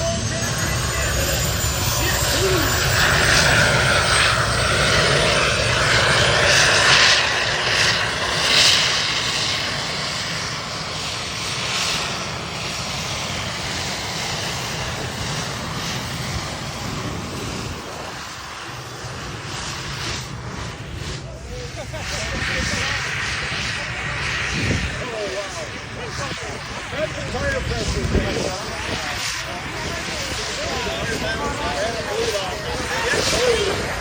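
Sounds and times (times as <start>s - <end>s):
aircraft engine running: 0.0s - 34.0s.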